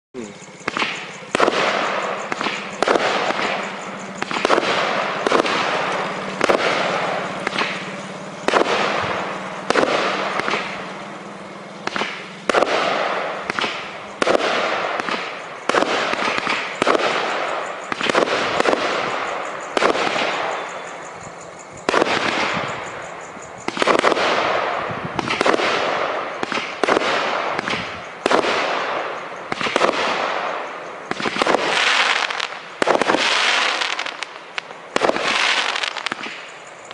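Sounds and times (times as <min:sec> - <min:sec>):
firework cake shots: 0:00.2 - 0:21.0, 0:23.6 - 0:36.9.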